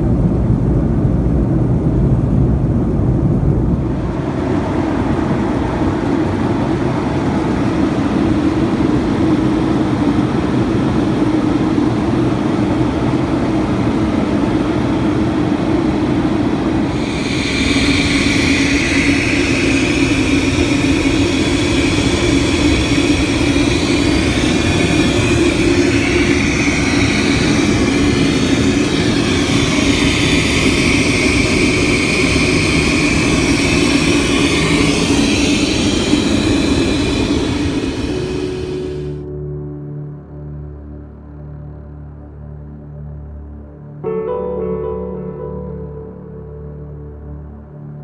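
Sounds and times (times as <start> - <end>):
airplane cabin drone: 0.0 - 39.3
jet engine whine: 0.0 - 39.3.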